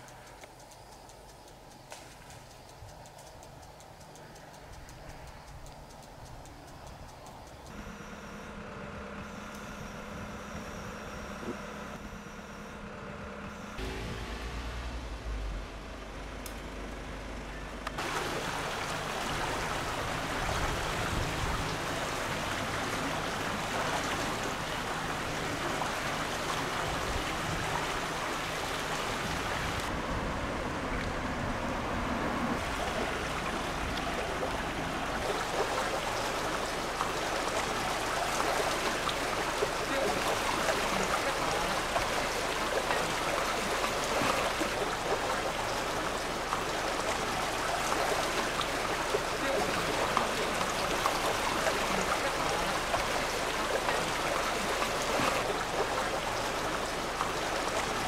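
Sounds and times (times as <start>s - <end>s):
water babbling along a canal: 0.0s - 58.0s.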